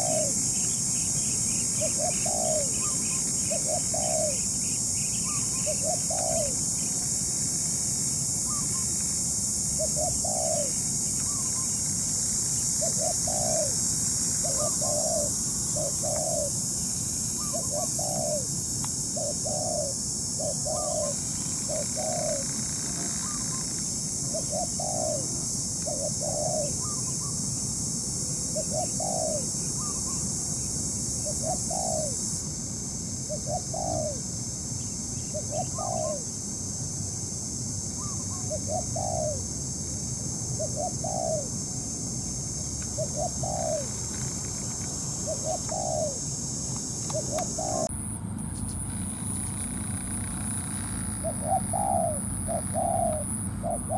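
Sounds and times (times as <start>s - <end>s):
doves cooing: 0.0s - 7.1s, 9.6s - 27.4s, 28.4s - 30.2s, 31.2s - 32.2s, 33.3s - 34.3s, 35.3s - 36.3s, 38.0s - 39.4s, 40.6s - 41.6s, 42.8s - 53.9s.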